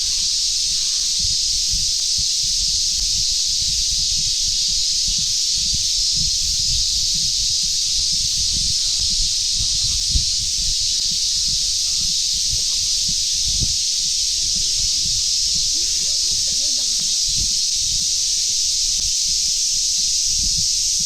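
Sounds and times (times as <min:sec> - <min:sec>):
cicadas chorus: 0:00.0 - 0:21.0.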